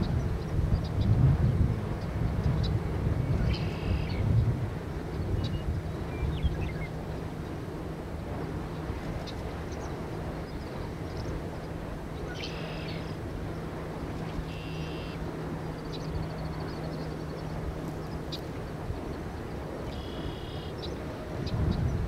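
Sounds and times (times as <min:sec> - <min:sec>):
low even hum: 0:00.0 - 0:22.0.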